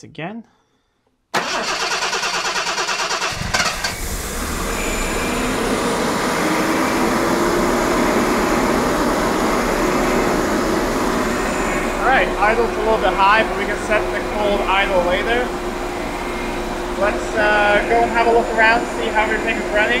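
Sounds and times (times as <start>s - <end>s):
engine fast idling: 1.4s - 20.0s
engine starter chugging: 1.4s - 20.0s.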